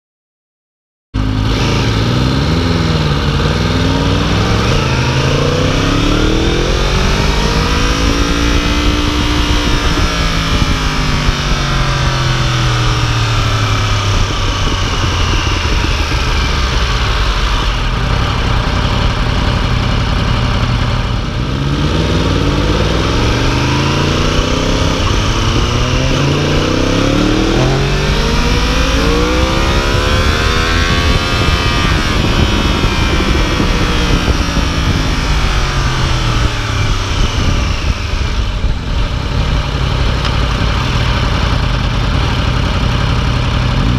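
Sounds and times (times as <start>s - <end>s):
motorcycle engine revving: 1.2s - 43.9s
steady rush of noise: 1.2s - 43.9s.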